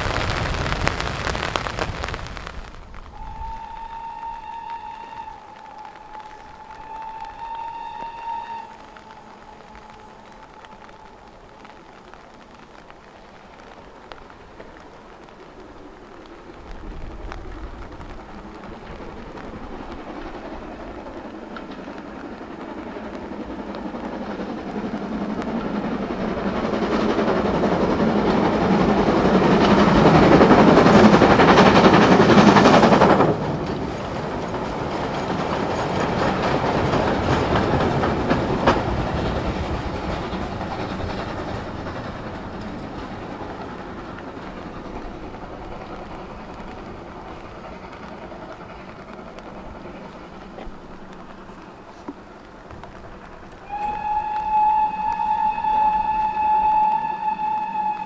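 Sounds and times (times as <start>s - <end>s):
steam train passing: 0.0s - 58.0s.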